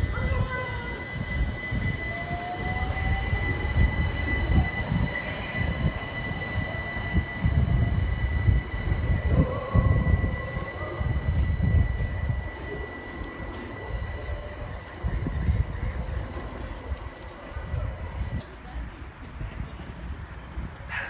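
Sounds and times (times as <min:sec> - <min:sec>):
traction motor whine: 0:00.0 - 0:18.6
train wheels rumbling on track: 0:00.0 - 0:21.0.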